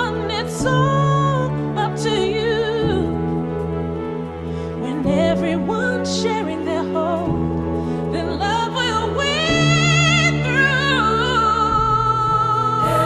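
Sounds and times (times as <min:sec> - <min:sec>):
backing chords and bass: 0:00.0 - 0:13.0.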